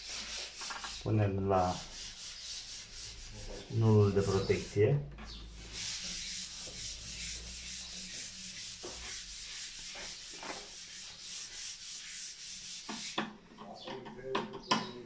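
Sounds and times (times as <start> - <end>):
rhythmic scraping rasp: 0.0 - 15.0.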